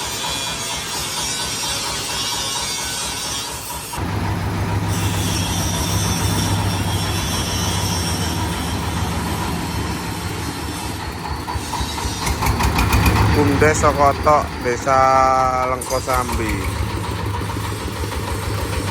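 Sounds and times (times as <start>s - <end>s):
corn sheller mechanical noise: 0.0s - 18.9s
diesel engine running: 0.0s - 18.9s.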